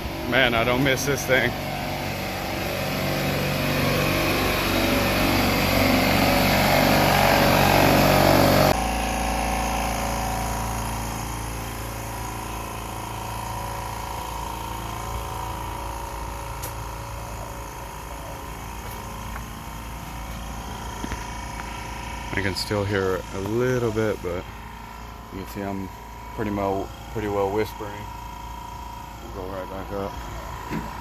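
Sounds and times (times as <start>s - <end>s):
air compressor running loudly: 0.0s - 31.0s
quiet air compressor hum: 0.0s - 31.0s.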